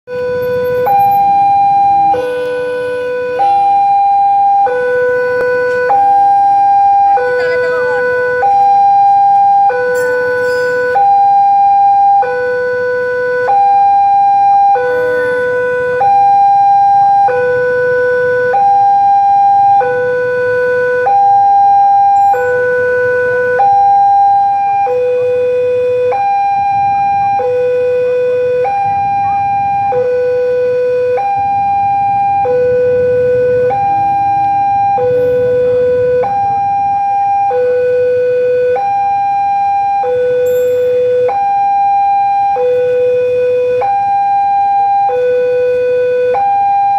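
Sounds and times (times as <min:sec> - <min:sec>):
two-tone level crossing alarm: 0:00.1 - 0:46.9.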